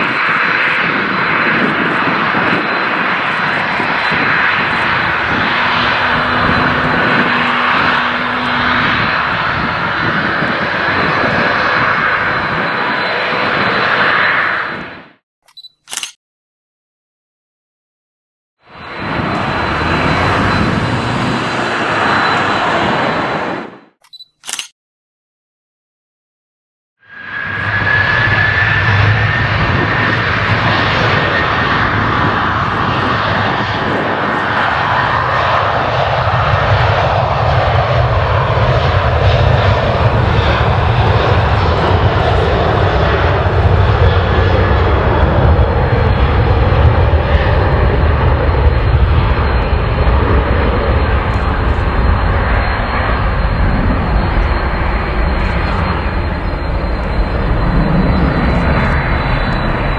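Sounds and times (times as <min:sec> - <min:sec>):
jet engines roaring: 0:00.0 - 0:15.2, 0:18.6 - 0:24.0, 0:27.0 - 0:59.9
high-pitched engine whine: 0:00.0 - 0:16.1, 0:18.6 - 0:24.7, 0:27.0 - 0:59.9.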